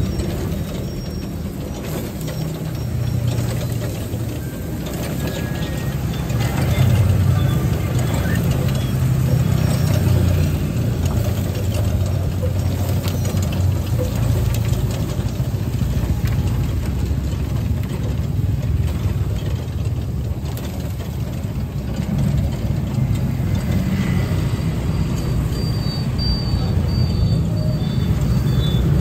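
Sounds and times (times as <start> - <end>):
bus engine passing: 0.0 - 29.0
road traffic rumble: 0.0 - 29.0.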